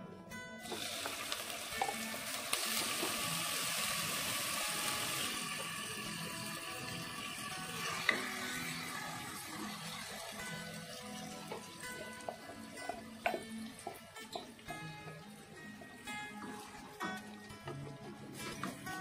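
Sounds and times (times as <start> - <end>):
aromatics sizzling in hot oil: 0.6 - 19.0.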